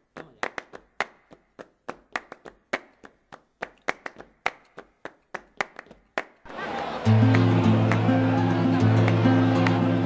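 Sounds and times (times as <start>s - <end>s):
rhythmic hand clapping: 0.0s - 10.0s.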